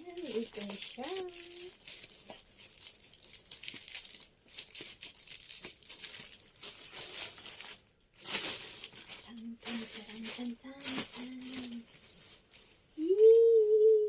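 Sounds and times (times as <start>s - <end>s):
packaging crinkling: 0.0s - 12.7s.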